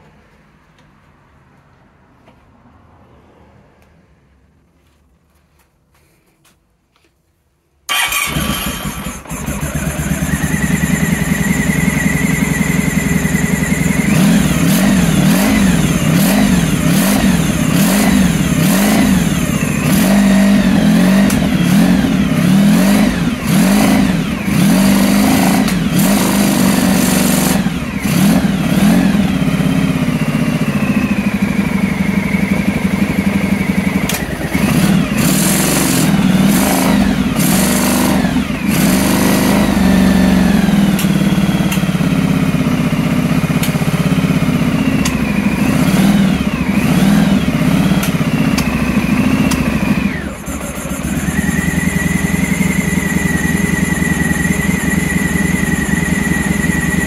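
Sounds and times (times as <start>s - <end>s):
motorcycle engine revving: 7.9s - 57.0s.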